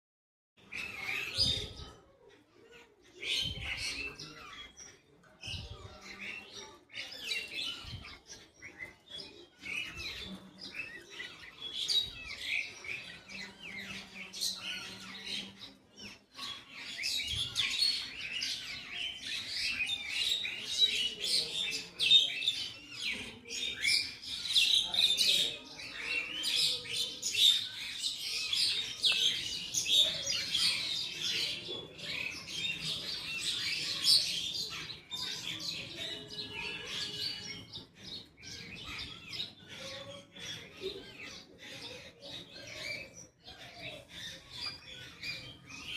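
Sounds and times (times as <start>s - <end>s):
birds chirping: 0.6s - 45.9s.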